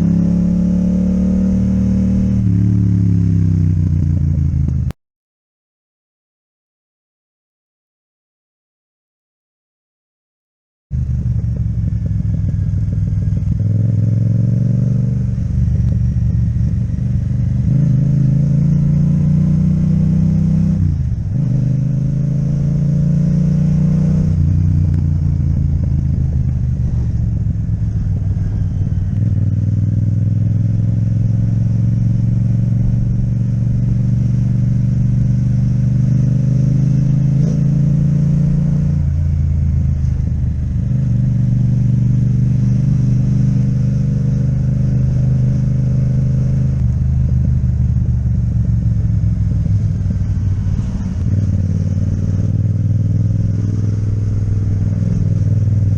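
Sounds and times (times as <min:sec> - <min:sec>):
motorcycle engine riding: 0:00.0 - 0:05.0, 0:10.9 - 0:55.9.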